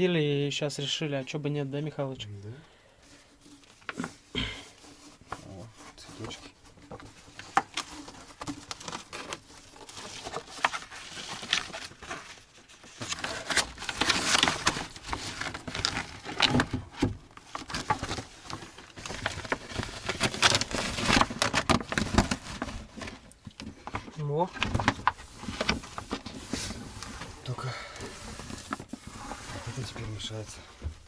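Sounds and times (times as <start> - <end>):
cloth rustling and crinkling: 3.0 - 31.0.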